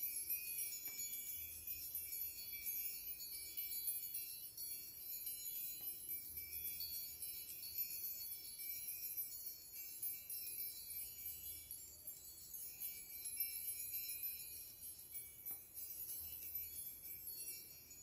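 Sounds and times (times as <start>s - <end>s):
high tinkling chimes: 0.0s - 18.0s.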